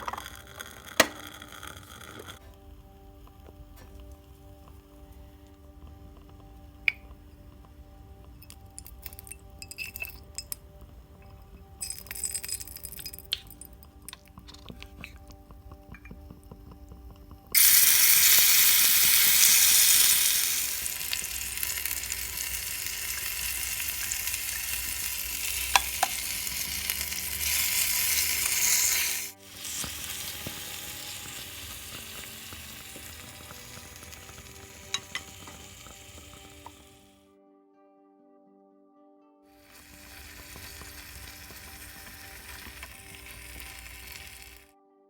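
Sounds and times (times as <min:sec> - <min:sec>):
food sizzling in hot oil: 0:00.0 - 0:37.1, 0:39.6 - 0:44.7
stirring clicks: 0:00.0 - 0:37.1, 0:39.8 - 0:44.7.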